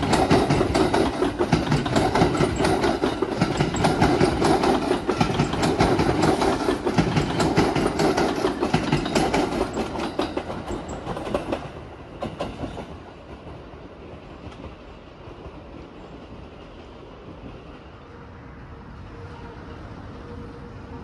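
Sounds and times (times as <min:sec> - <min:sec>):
train wheels clicking over rail joints: 0:00.0 - 0:17.8
distant train rumble: 0:00.0 - 0:21.0.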